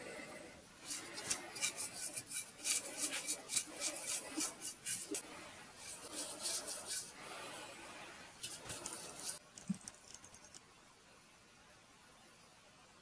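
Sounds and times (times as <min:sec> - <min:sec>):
paintbrush scratchy bristle strokes: 0:00.0 - 0:10.6.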